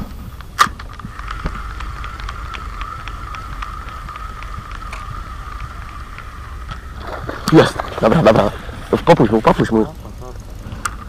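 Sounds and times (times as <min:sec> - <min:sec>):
spinning reel whirring and ticking: 0:00.3 - 0:11.0.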